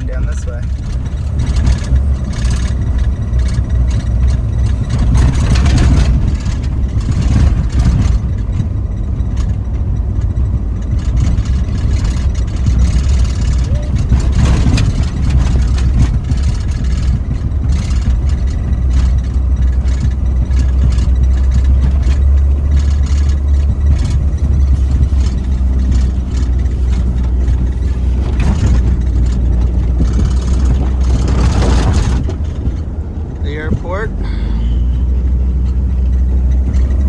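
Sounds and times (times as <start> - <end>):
car engine droning: 0.0 - 37.0
knocks and scrapes: 0.0 - 37.0.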